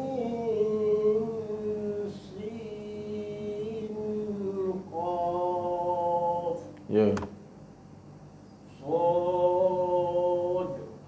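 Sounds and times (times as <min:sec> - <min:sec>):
person chanting a recitation: 0:00.0 - 0:06.8, 0:08.7 - 0:11.0.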